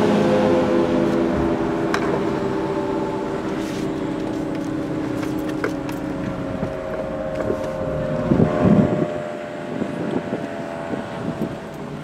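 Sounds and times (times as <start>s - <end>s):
car engine droning: 0.0s - 12.0s
tyre and road noise: 0.0s - 12.0s.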